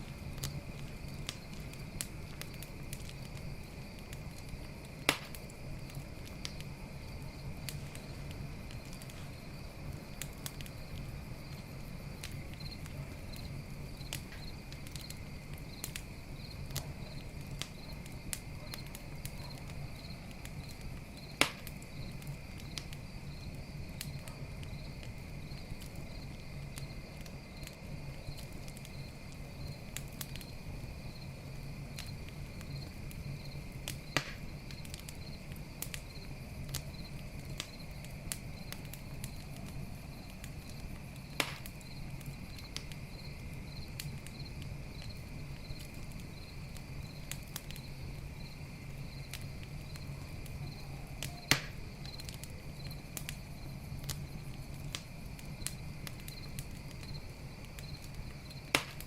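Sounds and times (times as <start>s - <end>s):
campfire crackling: 0.0s - 59.0s
campfire pops: 0.0s - 59.0s
crickets chirping: 0.0s - 59.0s.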